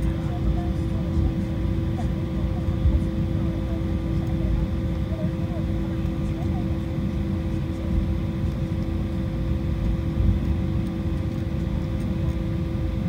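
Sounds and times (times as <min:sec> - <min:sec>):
jet engines droning: 0:00.0 - 0:13.0
steady hums: 0:00.0 - 0:13.0.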